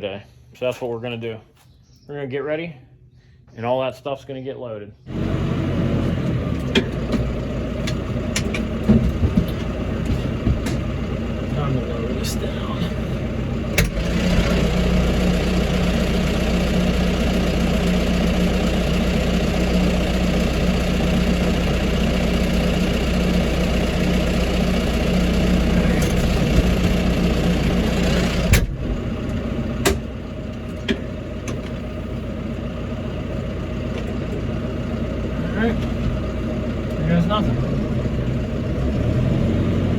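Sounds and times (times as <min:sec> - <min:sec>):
tractor engine running: 0:05.1 - 0:39.9.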